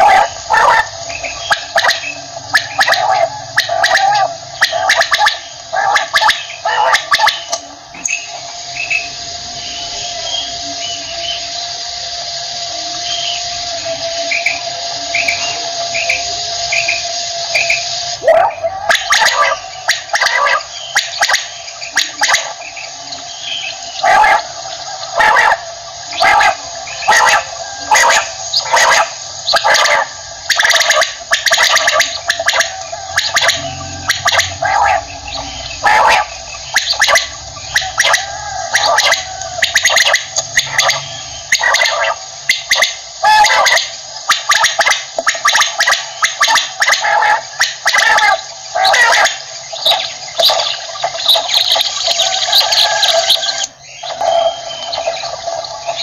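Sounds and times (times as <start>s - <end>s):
quail calling: 0.0s - 56.0s.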